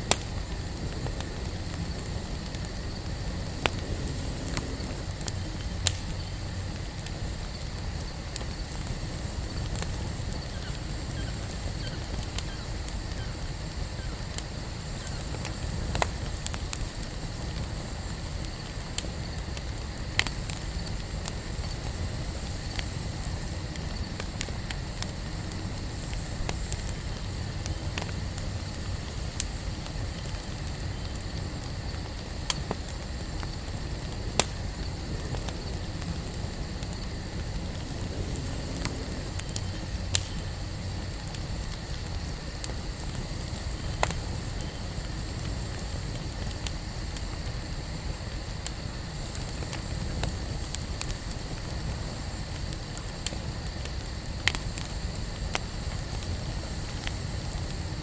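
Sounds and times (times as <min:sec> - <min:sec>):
wood popping and crackling: 0:00.0 - 0:57.8
low rush of flames: 0:00.0 - 0:58.0.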